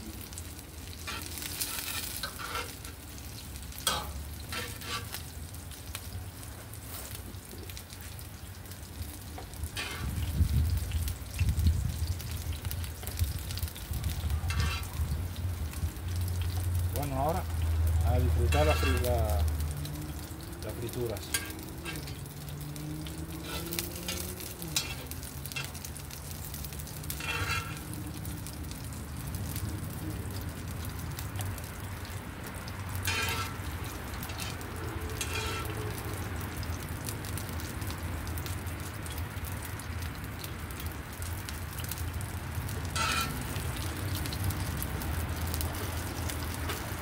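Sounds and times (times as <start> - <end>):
oil sizzling in a skillet: 0.0 - 47.0.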